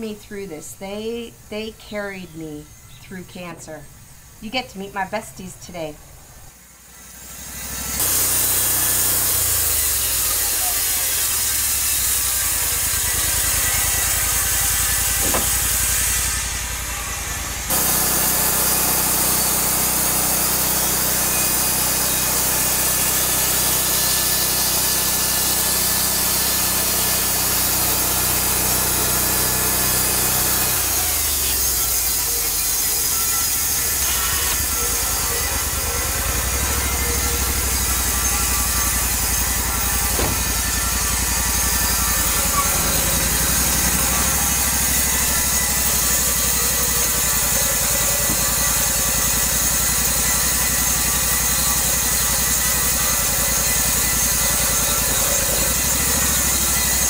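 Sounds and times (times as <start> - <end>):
sawmill engine droning: 0.0 - 57.0
band blade sawing log: 7.1 - 57.0.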